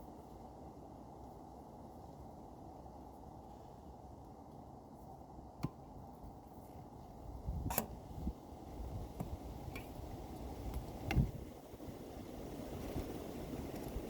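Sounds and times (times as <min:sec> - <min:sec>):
low wind rumble on microphone: 0:00.0 - 0:14.0.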